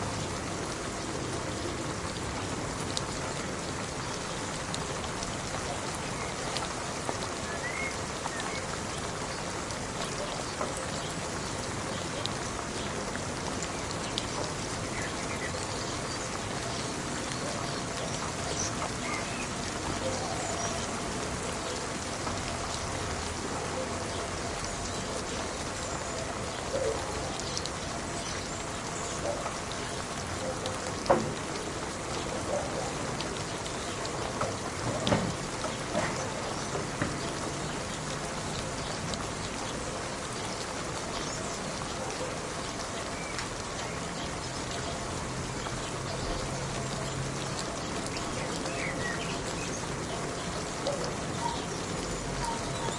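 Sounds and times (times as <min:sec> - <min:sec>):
raindrops splashing close by: 0:00.0 - 0:52.9
steady rain falling: 0:00.0 - 0:52.9.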